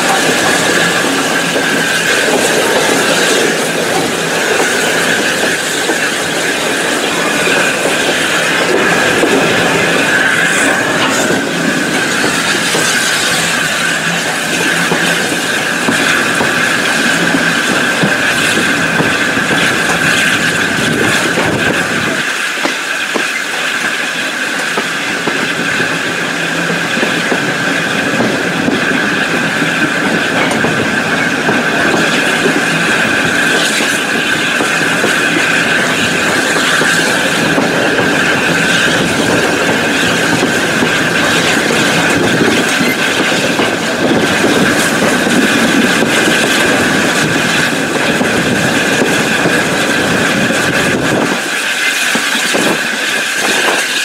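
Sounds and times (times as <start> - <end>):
train wheels on rail: 0.0 - 54.0.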